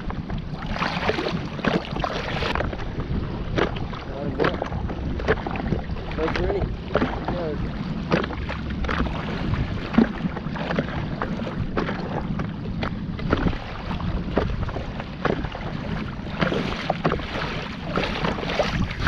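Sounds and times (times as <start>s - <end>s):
water slapping against paddleboard: 0.0s - 19.0s
wind rumble on microphone: 0.0s - 19.0s.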